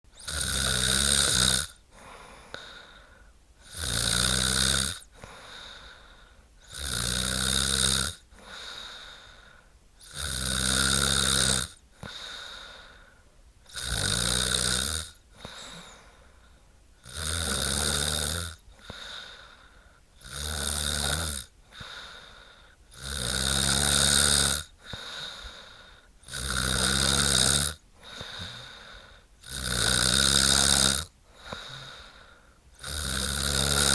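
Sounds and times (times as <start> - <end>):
woman snoring: 0.2 - 3.0, 3.6 - 9.4, 10.0 - 13.0, 13.7 - 16.2, 17.0 - 33.9.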